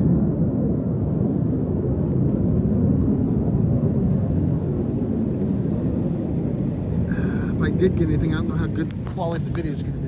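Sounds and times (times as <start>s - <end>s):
distant jet engines rumbling: 0.0s - 10.0s.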